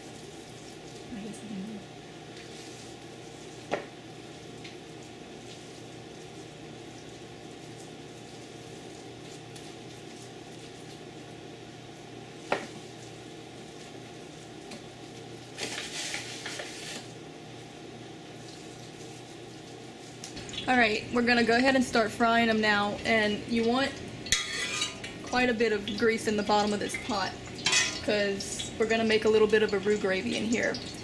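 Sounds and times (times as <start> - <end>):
room hum: 0.0 - 31.0.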